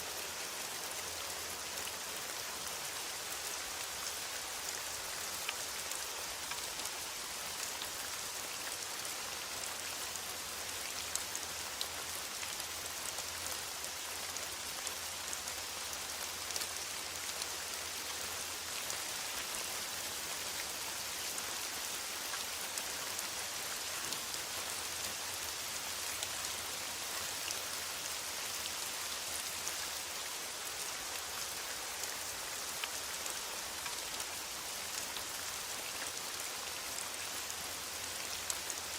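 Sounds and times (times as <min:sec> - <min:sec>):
rain falling in forest: 0:00.0 - 0:38.9.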